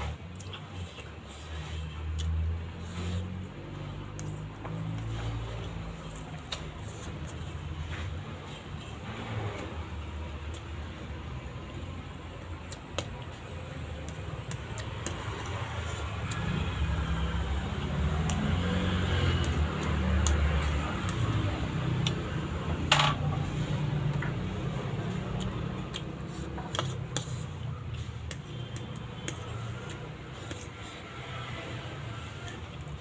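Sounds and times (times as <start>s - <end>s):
chewing noises: 0.0s - 22.5s, 24.0s - 31.4s.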